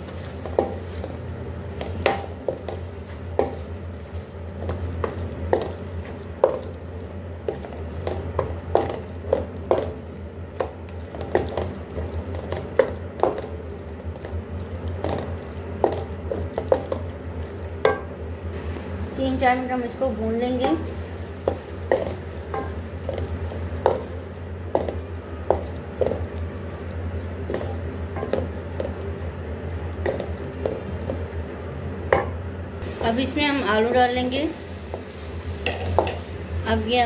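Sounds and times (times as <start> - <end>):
meat frying: 0.0 - 37.0
steady low hum: 0.0 - 37.0.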